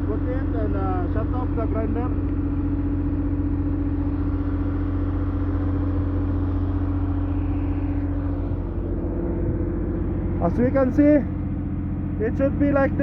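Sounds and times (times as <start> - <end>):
machine humming and rumbling: 0.0 - 13.0.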